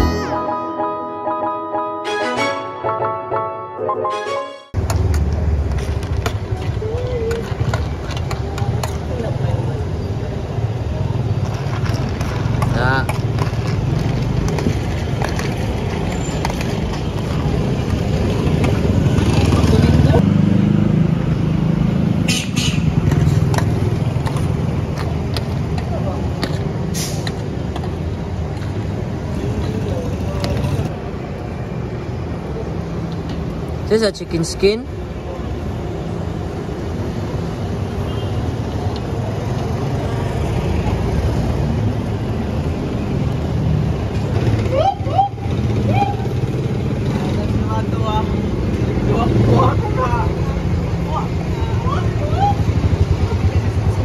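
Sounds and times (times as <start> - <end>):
passing traffic engine hum: 0.0 - 54.0.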